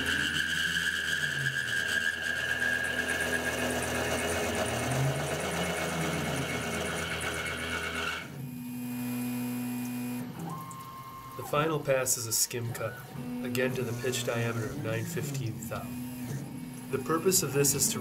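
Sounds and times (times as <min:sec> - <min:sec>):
high-pitched cutting whine: 0:00.0 - 0:10.4, 0:12.4 - 0:18.0
machine humming: 0:00.0 - 0:18.0.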